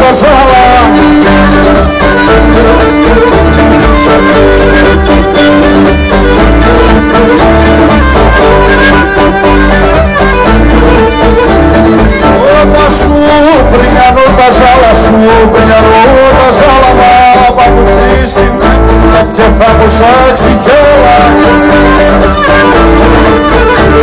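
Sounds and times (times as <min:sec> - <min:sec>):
bowed string melody: 0:00.0 - 0:17.7, 0:20.8 - 0:24.0
plucked string accompaniment: 0:00.0 - 0:24.0.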